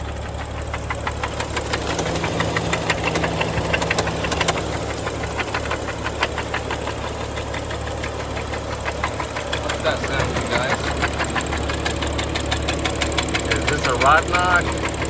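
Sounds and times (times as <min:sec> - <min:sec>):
car engine running: 0:00.0 - 0:15.0
engine knocking: 0:00.0 - 0:15.0.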